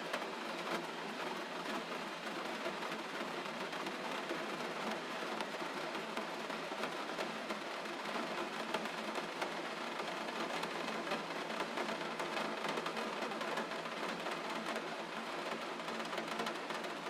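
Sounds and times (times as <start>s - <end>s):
gentle rain: 0.0s - 17.0s
rain drops ticking: 0.1s - 17.0s.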